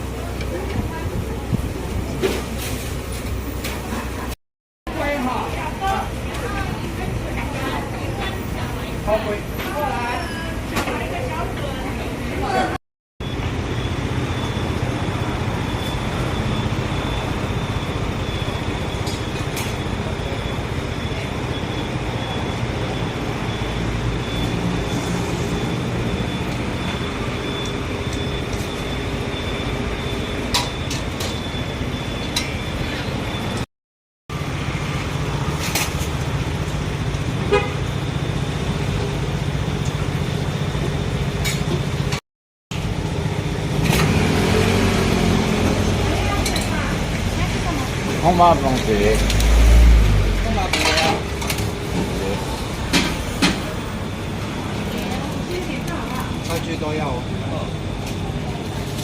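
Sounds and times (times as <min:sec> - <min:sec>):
street traffic with passing cars: 0:00.0 - 0:33.7, 0:34.3 - 0:59.0.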